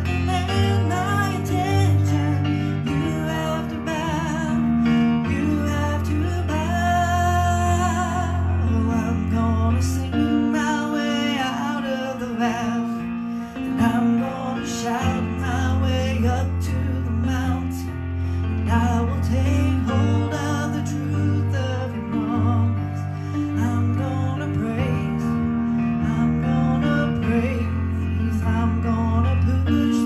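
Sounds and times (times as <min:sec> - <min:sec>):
electric keyboard chords: 0:00.0 - 0:30.0.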